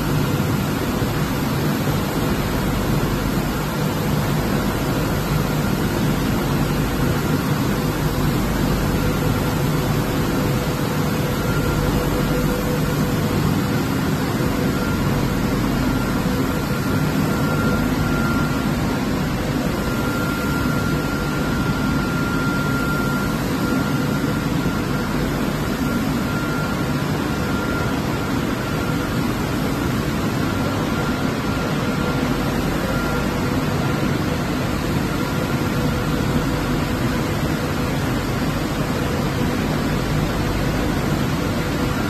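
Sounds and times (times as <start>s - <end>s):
faint steady whine: 0.0s - 42.0s
fan noise: 0.0s - 42.0s.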